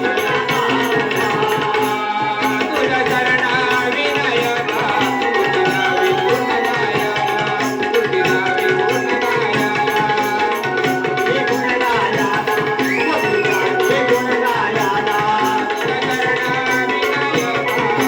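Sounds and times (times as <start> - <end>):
fast metallic beat: 0.0 - 18.0
hand drum: 0.0 - 18.0
person singing folk song: 0.0 - 18.0.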